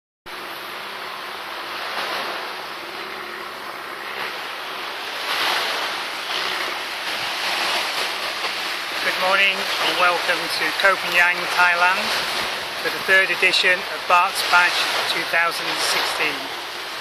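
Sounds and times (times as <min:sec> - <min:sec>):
sea washing on beach: 0:00.3 - 0:17.0.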